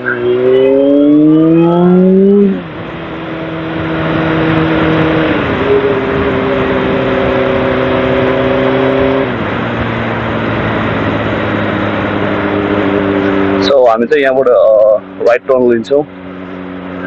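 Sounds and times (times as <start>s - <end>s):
wind noise: 0.0s - 13.7s
motorcycle engine shifting gears: 0.0s - 15.4s.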